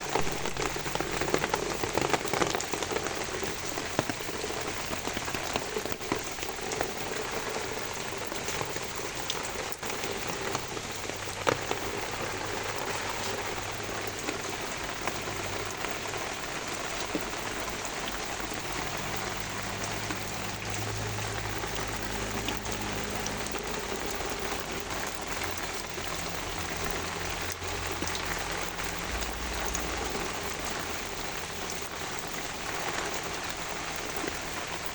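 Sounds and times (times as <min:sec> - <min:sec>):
rain falling on plants: 0:00.0 - 0:34.9.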